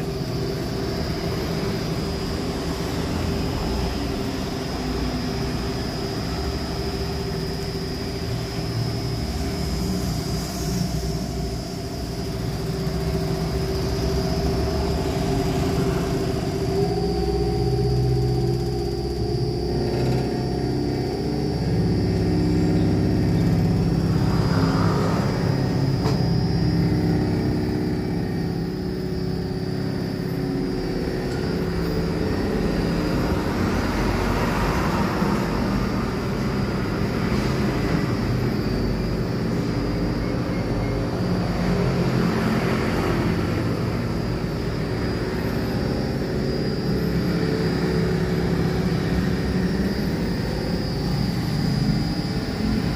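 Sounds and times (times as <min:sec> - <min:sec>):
mixer motor humming with whine: 0:00.0 - 0:52.9.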